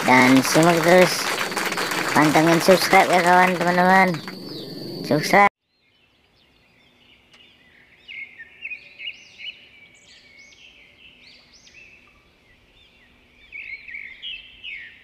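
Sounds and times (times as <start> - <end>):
small birds chirping: 1.8 - 15.0.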